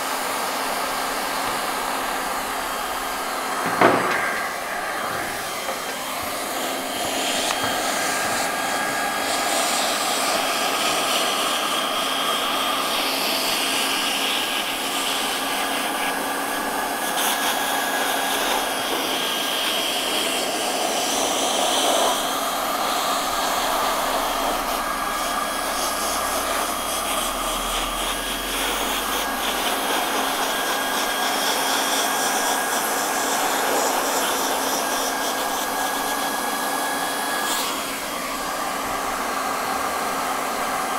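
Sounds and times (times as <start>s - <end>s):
hot-air welding gun blowing: 0.0s - 40.9s.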